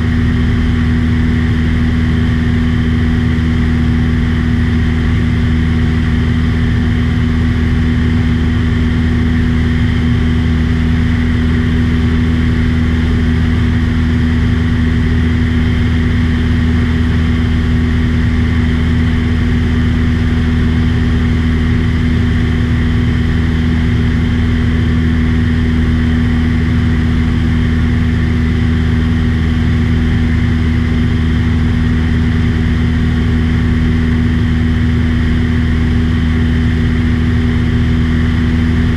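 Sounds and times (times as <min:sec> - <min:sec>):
small airplane engine drone: 0:00.0 - 0:38.9.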